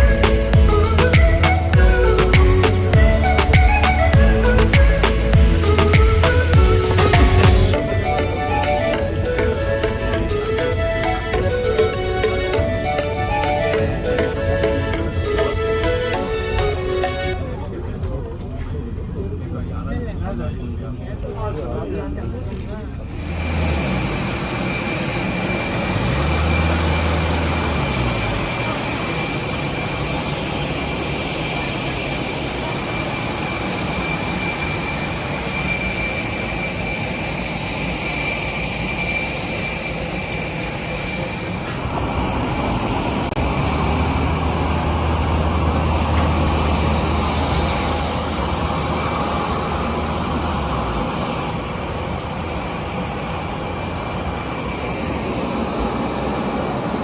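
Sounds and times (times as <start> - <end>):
jet engines from inside cabin: 6.3 - 57.0.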